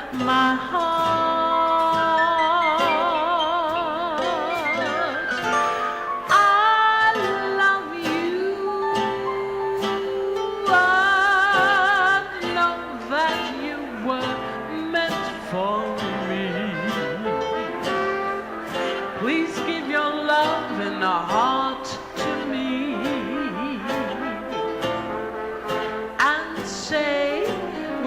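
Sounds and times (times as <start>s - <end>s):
jazz dance band playing: 0.0s - 28.0s.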